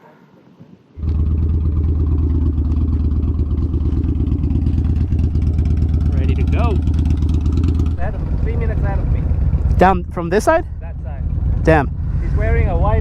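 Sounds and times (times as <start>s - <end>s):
motorcycle engine starting and idling: 1.0s - 13.0s.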